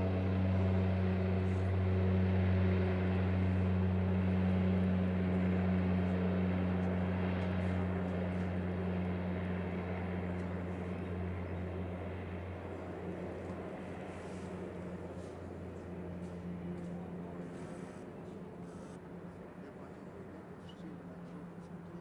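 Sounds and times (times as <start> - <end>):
propeller engine droning: 0.0 - 22.0.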